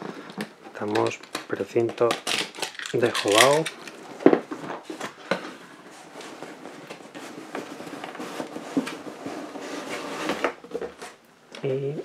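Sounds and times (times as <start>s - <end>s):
cardboard rustling: 0.0s - 11.2s.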